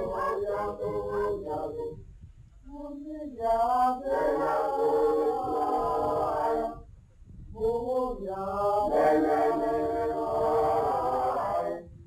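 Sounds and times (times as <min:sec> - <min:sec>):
group singing unaccompanied: 0:00.0 - 0:02.0, 0:02.7 - 0:06.9, 0:07.6 - 0:12.0.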